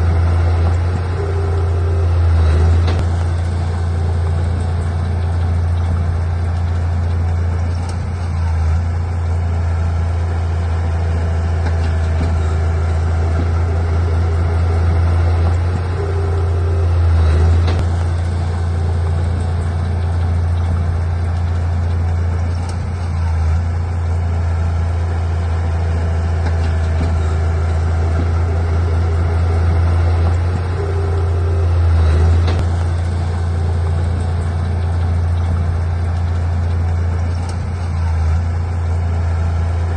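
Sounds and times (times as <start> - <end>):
heavy diesel engine droning: 0.0 - 39.9.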